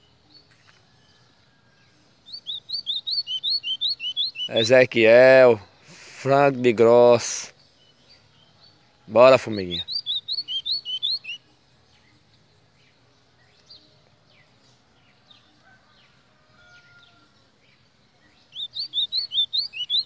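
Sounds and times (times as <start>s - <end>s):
caged bird singing: 0.0s - 20.0s.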